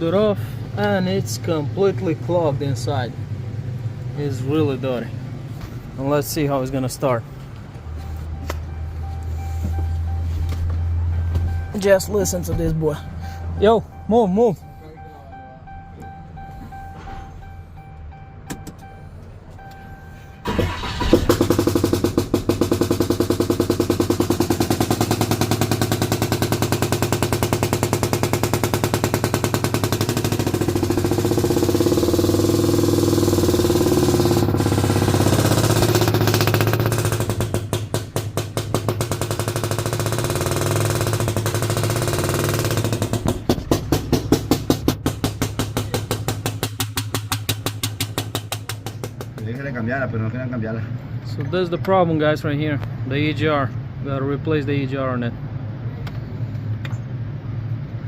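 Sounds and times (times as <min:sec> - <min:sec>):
diesel engine cranking and running: 0:00.0 - 0:50.3.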